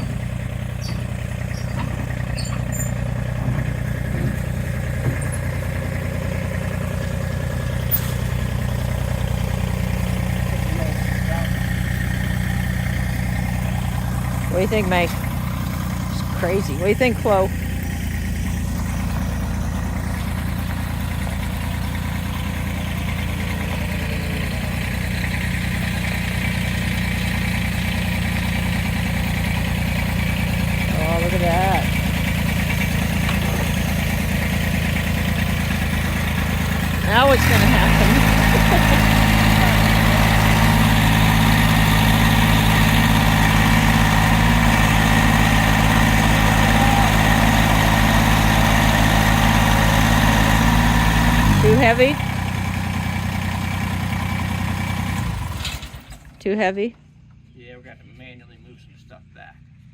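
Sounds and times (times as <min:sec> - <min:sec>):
tractor engine running: 0:00.0 - 0:57.5.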